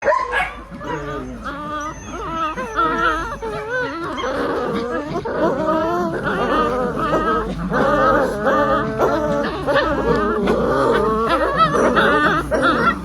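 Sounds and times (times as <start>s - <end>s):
puppy whining: 0.0s - 13.0s.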